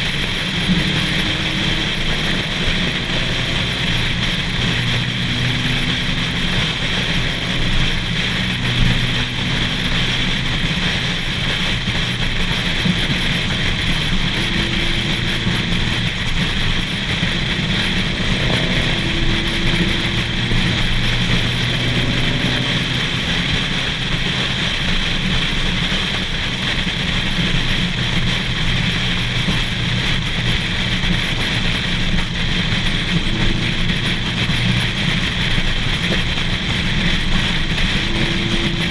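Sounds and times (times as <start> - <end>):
faint engine hum: 0.0 - 38.9
road noise from cars: 0.0 - 38.9.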